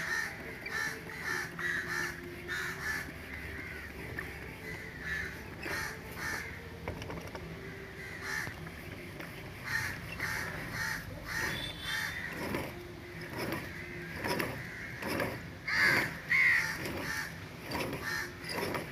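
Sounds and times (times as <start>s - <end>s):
bird calling: 0.0s - 18.8s.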